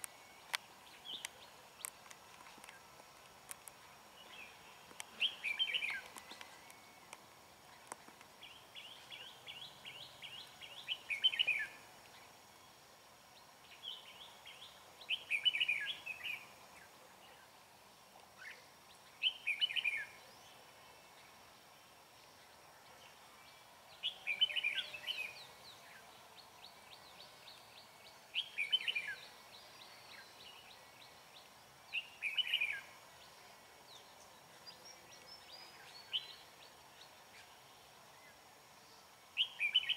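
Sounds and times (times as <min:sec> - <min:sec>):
birds singing bright notes: 0:00.0 - 0:02.9, 0:03.5 - 0:12.8, 0:13.4 - 0:17.6, 0:18.3 - 0:39.9.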